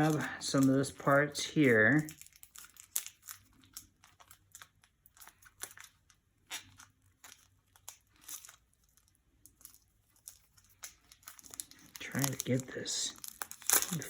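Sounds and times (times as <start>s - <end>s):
packaging rustling: 0.0s - 14.0s.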